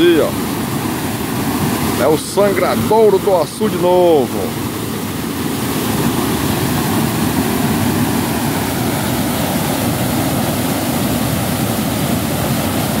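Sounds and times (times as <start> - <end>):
floodwater pouring over spillway: 0.0 - 13.0.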